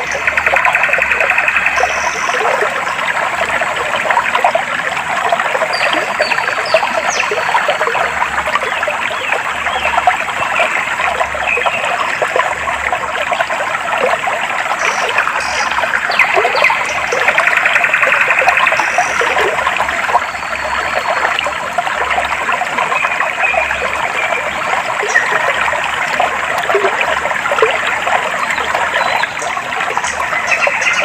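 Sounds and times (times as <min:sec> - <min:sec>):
stream water trickling: 0:00.0 - 0:31.0.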